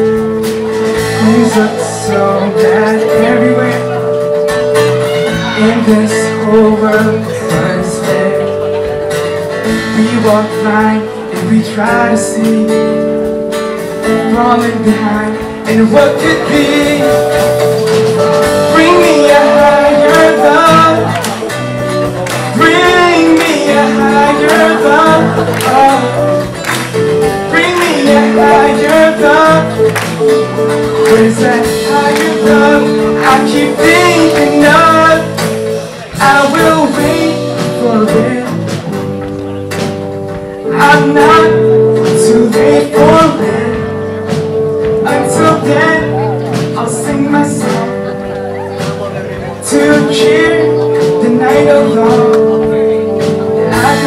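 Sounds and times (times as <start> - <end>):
man singing into microphone: 0.0 - 26.6, 27.2 - 39.3, 40.4 - 54.0
live band with drums: 0.0 - 54.0.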